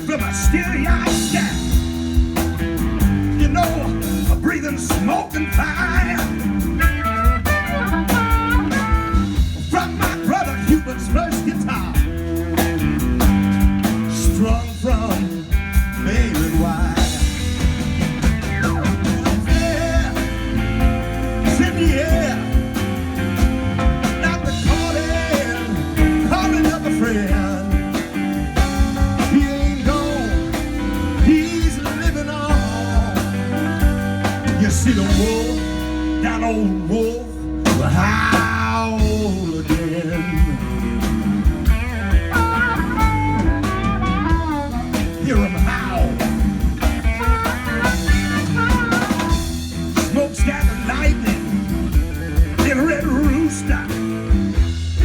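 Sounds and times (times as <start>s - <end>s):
bass guitar: 0.0s - 55.0s
drum kit: 0.0s - 55.0s
lead guitar bending notes: 0.0s - 55.0s.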